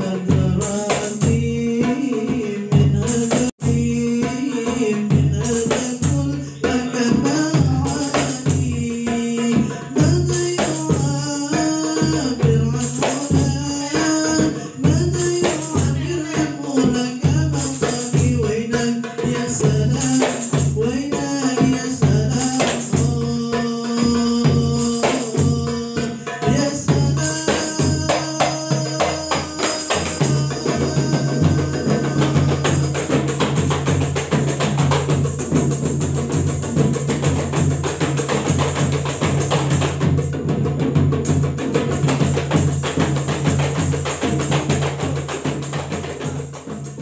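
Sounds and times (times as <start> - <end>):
hand drums playing fast rhythm: 0.0 - 47.0
large drum: 0.0 - 47.0.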